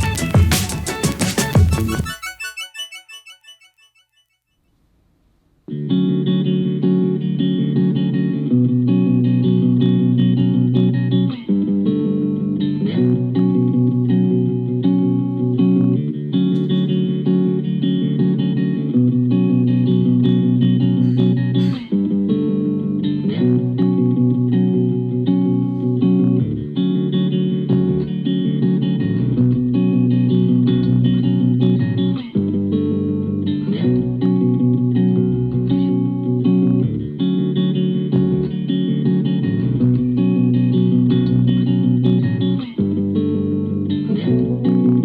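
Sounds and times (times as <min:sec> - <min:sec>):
instrumental guitar music with bass: 0:00.0 - 0:02.3, 0:05.7 - 0:45.0.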